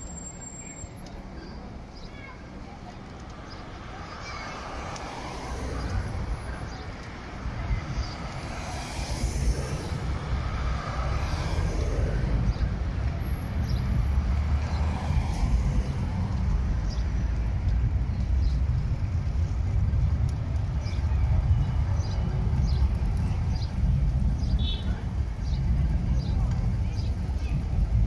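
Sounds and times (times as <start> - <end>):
cars passing close by: 0.0 - 28.0
steady low traffic rumble: 0.0 - 28.0.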